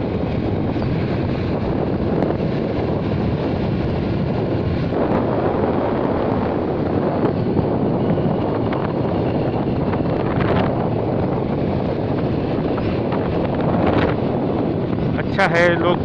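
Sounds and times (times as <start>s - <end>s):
vehicle rumble: 0.0s - 16.0s
wind rushing on microphone: 0.0s - 16.0s.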